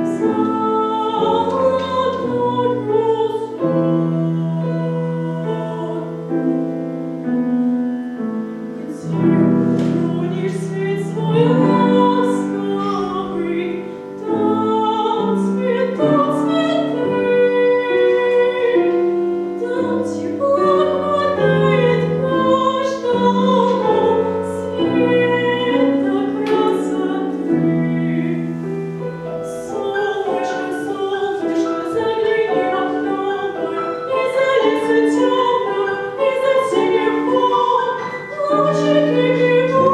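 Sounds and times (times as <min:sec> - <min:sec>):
woman singing operatically: 0:00.0 - 0:06.4, 0:08.8 - 0:28.6, 0:29.4 - 0:39.9
piano accompaniment: 0:00.0 - 0:39.9.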